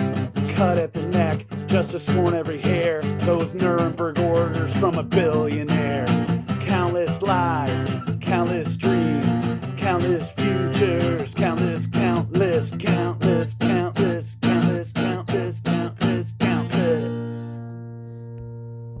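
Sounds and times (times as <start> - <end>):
guitar strumming: 0.0 - 19.0.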